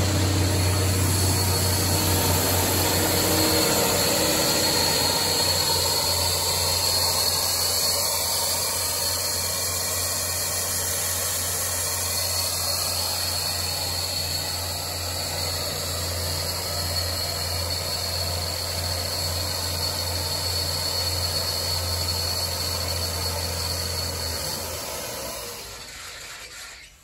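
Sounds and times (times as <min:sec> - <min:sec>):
compressor winding down: 0:00.0 - 0:27.0
diesel air compressor droning: 0:00.0 - 0:27.0.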